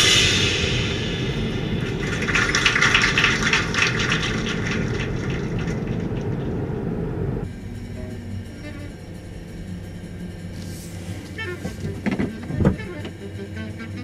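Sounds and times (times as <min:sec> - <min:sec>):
car road and engine rumble: 0:00.0 - 0:13.5.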